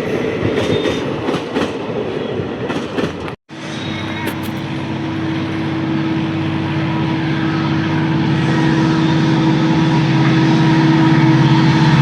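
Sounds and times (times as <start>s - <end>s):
locomotive engine humming: 0.0s - 12.0s.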